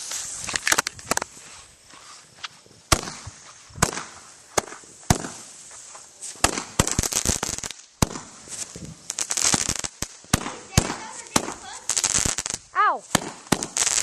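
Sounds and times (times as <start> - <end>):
firecrackers banging: 0.0 - 14.0.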